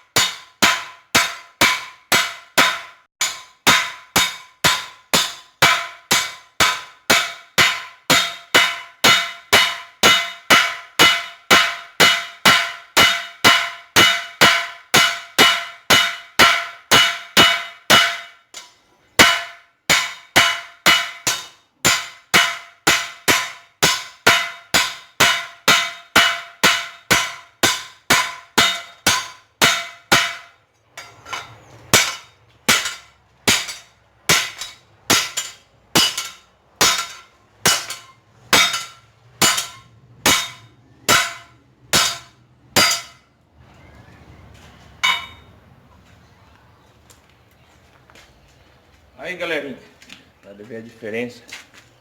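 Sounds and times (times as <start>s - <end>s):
hammer ringing on steel: 0.1s - 43.2s, 45.0s - 45.5s.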